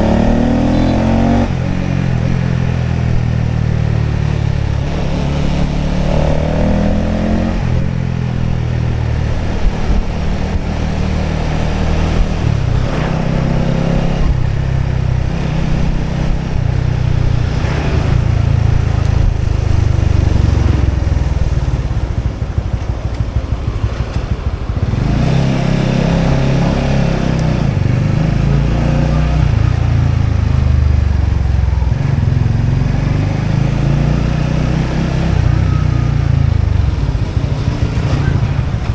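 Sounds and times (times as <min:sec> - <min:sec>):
motorbike engine running: 0:00.0 - 0:34.0.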